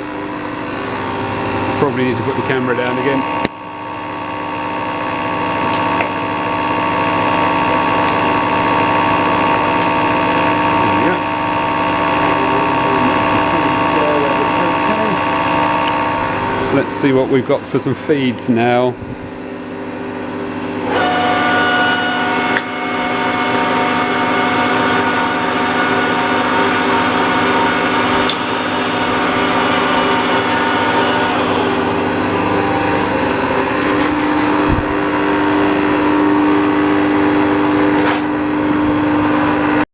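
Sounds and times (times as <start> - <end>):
metal lathe gear whine: 0.0 - 39.8.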